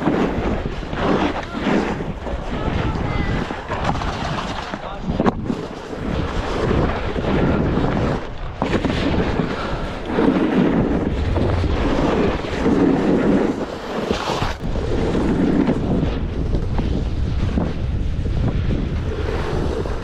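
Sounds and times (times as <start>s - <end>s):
skis sliding on snow: 0.0s - 20.0s
wind buffeting microphone: 0.0s - 20.0s.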